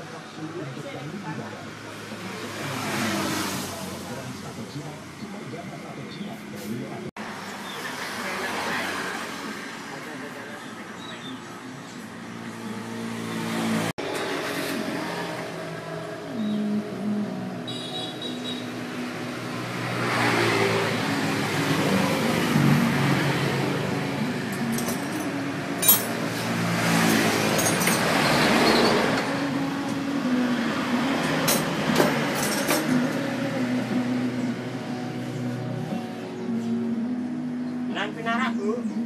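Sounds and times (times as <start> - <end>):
steady engine hum: 0.0 - 39.0
vehicles passing by: 0.0 - 39.0.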